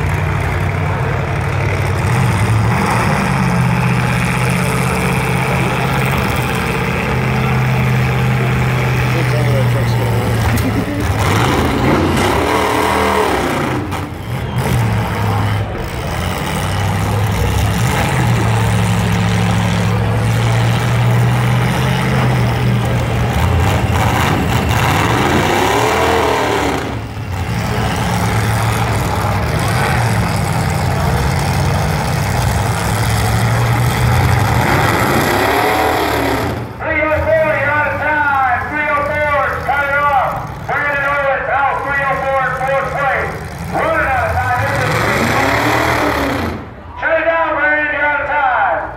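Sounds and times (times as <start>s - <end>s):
truck engines revving: 0.0s - 48.9s.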